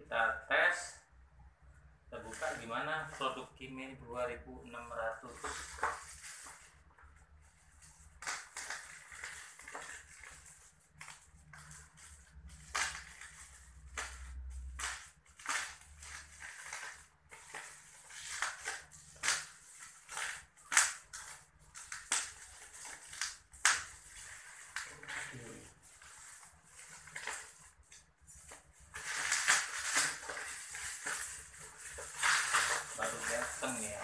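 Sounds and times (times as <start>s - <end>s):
plastic wrapping crinkling: 2.2s - 3.4s, 5.1s - 34.0s.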